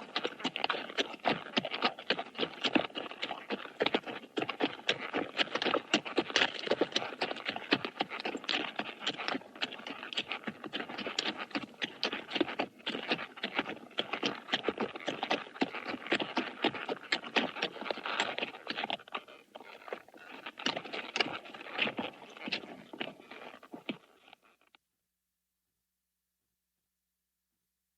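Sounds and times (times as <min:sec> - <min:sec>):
horse hooves clip-clopping: 0:00.0 - 0:24.8.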